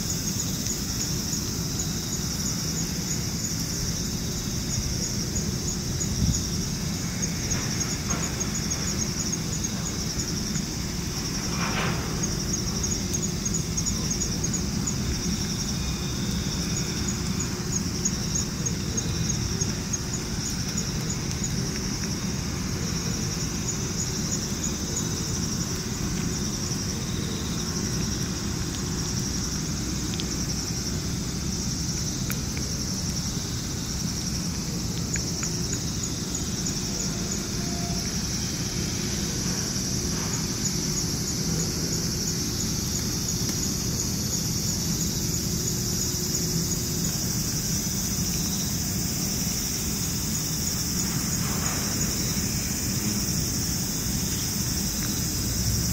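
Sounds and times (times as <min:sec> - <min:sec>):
insects chirping in pulses: 0:00.0 - 0:55.9.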